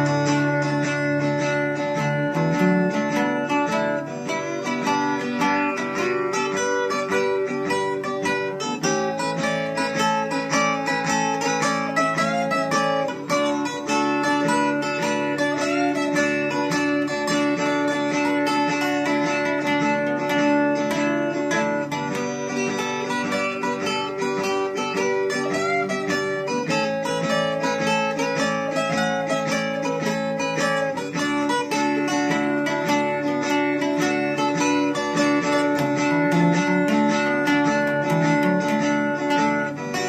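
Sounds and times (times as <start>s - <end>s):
acoustic guitar picking: 0.0s - 40.0s.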